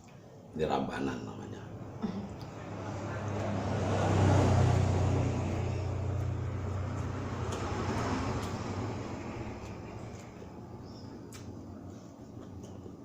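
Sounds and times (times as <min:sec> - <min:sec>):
vehicle engine rumble passing by: 0:00.9 - 0:13.0.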